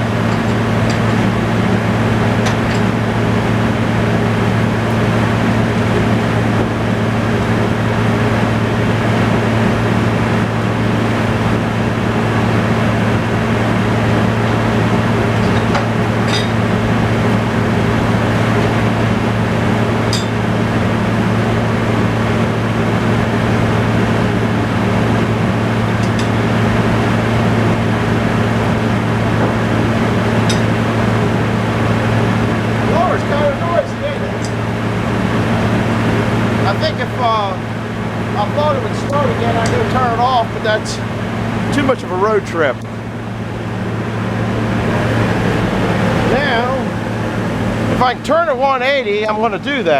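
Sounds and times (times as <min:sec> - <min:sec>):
tractor engine droning: 0:00.0 - 0:49.9.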